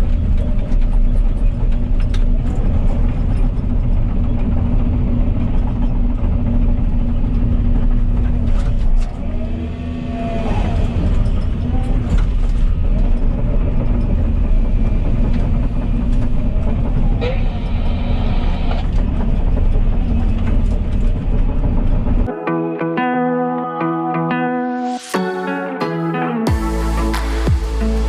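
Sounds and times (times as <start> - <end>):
excavator diesel engine: 0.0 - 24.4, 25.0 - 28.0.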